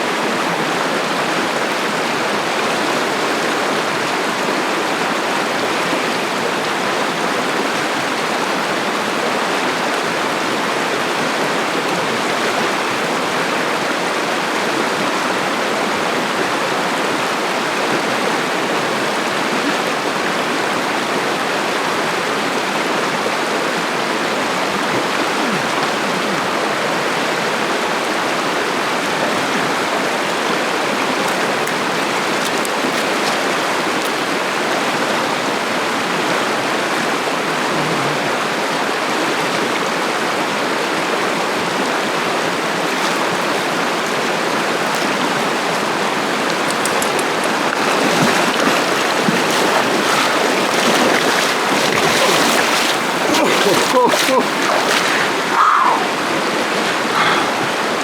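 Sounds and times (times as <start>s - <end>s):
river water over rocks: 0.0s - 58.0s.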